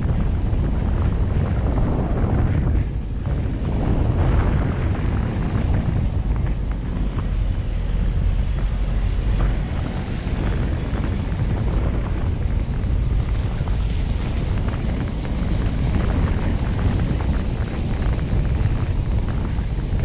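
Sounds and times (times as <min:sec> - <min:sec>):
road noise: 0:00.0 - 0:20.0
wind buffeting microphone: 0:00.0 - 0:20.0.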